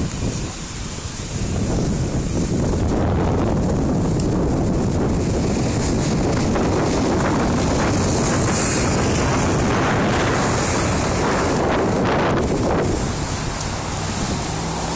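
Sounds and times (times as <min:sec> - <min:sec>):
strong wind on microphone: 0:00.0 - 0:14.9.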